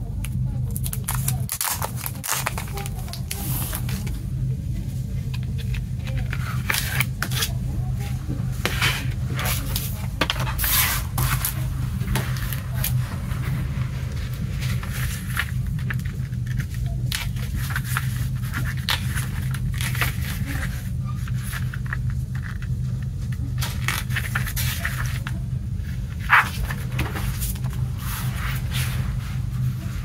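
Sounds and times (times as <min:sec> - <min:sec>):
steady low hum: 0:00.0 - 0:30.0
paper rustling and crinkling: 0:00.6 - 0:04.2, 0:04.9 - 0:07.8, 0:08.4 - 0:30.0.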